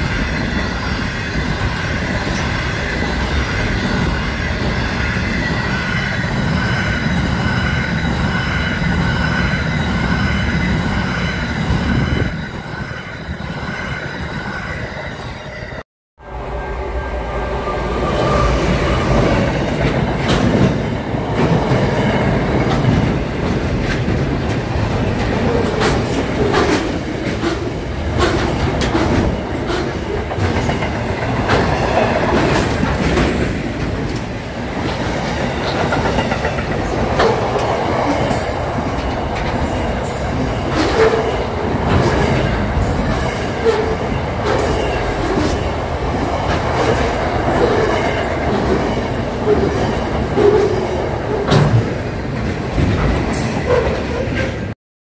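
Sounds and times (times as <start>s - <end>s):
freight train wagons rumbling past: 0.0s - 54.8s.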